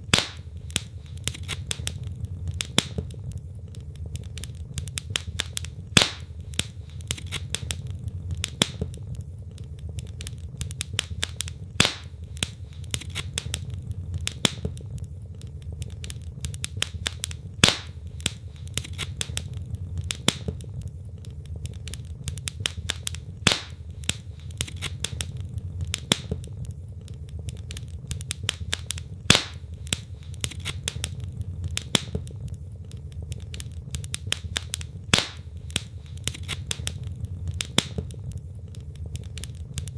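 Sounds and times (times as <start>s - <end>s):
logs crackling in fireplace: 0.0s - 39.9s
loud fire pops: 0.0s - 39.9s
low fire rumble: 0.0s - 39.9s.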